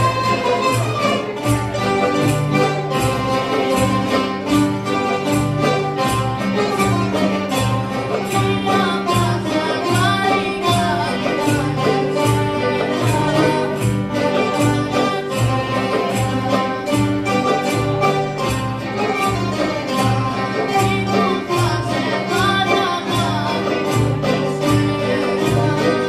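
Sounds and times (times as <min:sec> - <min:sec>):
accordion: 0:00.0 - 0:26.0
plucked melody: 0:00.0 - 0:26.0
strummed acoustic guitars: 0:00.0 - 0:26.0.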